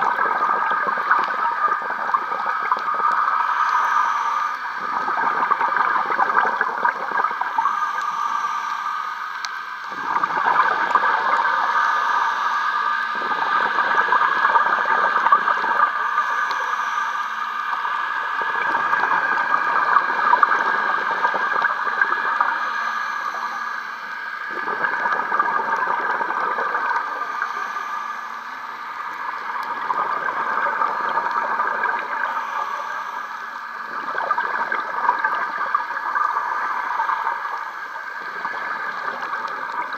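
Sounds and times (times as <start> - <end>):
bubbly gurgling exhalations: 0.0 - 3.8, 4.7 - 7.8, 9.9 - 16.8, 17.8 - 23.2, 24.4 - 27.8, 28.9 - 39.9
steady hiss: 0.1 - 39.9
quiet inhalations: 2.5 - 5.6, 6.8 - 39.9.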